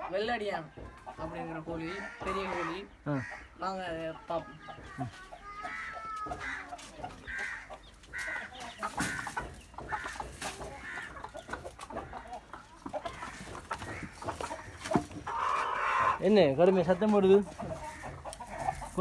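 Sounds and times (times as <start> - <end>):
chicken clucking harshly: 0.0 - 19.0.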